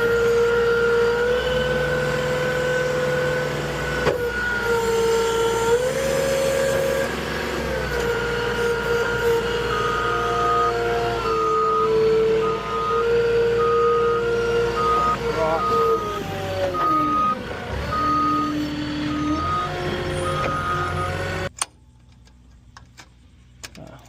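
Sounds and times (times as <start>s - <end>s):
forklift engine and hydraulics whine: 0.0s - 23.7s.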